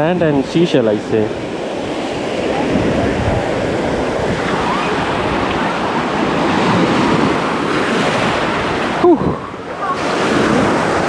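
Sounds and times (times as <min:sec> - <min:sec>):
sea surf washing ashore: 0:00.0 - 0:11.0.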